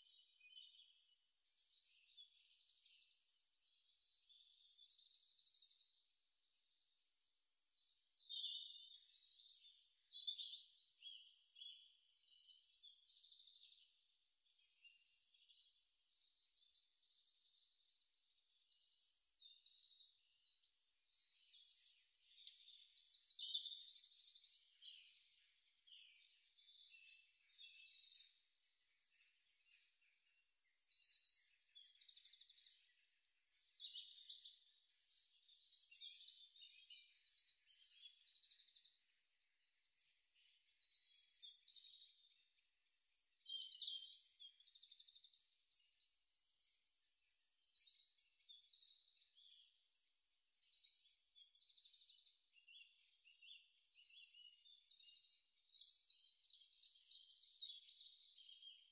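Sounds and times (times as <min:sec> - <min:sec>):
small birds chirping and trilling: 0:00.0 - 0:58.9.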